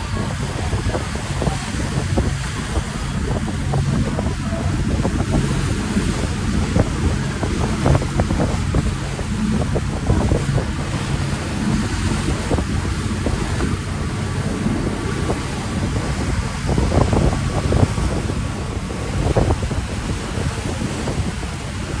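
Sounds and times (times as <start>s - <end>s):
ferry engine hum: 0.0s - 22.0s
water washing past hull: 0.0s - 22.0s
wind gusting on microphone: 0.0s - 22.0s.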